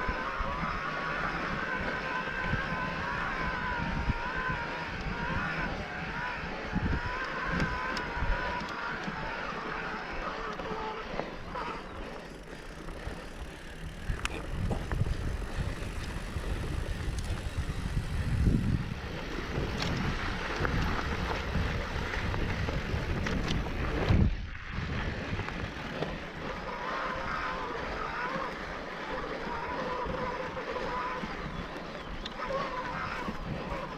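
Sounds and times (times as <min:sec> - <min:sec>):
bike tyres rolling on dirt: 0:00.0 - 0:33.9
wind buffeting microphone: 0:00.0 - 0:33.9.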